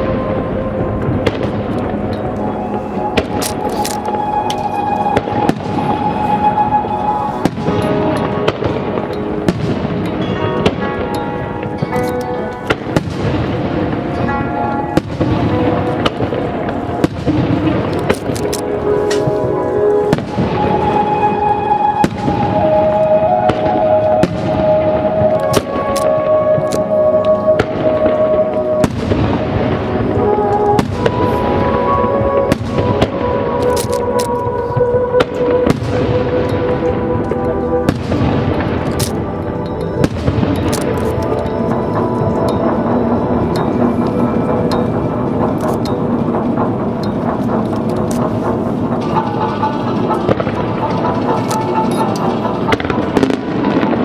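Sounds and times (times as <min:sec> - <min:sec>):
fireworks booming: 0:00.0 - 0:11.9, 0:12.6 - 0:26.7, 0:27.5 - 0:33.6, 0:34.8 - 0:54.0
fireworks cracking: 0:00.0 - 0:54.0
music over loudspeakers: 0:00.0 - 0:54.0.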